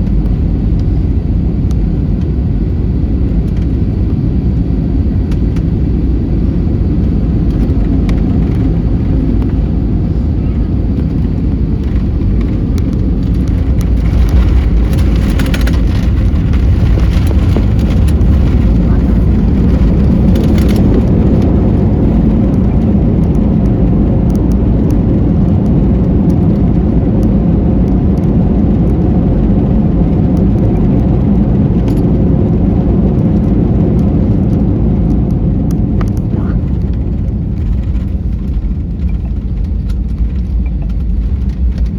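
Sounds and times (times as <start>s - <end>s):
airliner engine rumble: 0.0s - 41.9s.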